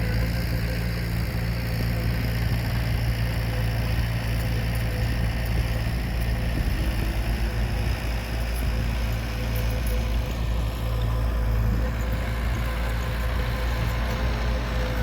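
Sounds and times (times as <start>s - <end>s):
diesel machinery engine droning: 0.0s - 15.0s.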